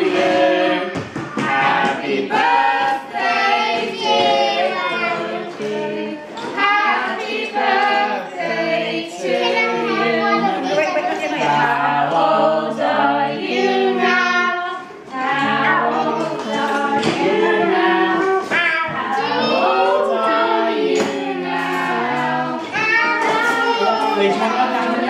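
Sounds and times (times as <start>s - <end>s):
family singing together: 0.0s - 25.0s.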